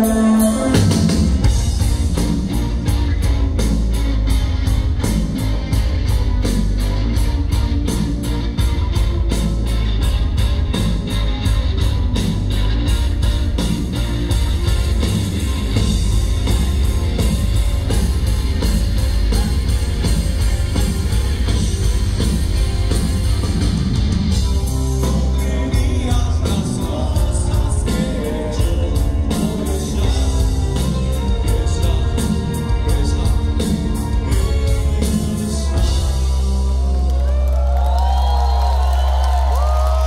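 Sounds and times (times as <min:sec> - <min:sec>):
electric guitar: 0:00.0 - 0:38.0
bass guitar: 0:00.0 - 0:40.0
drums: 0:00.0 - 0:40.0.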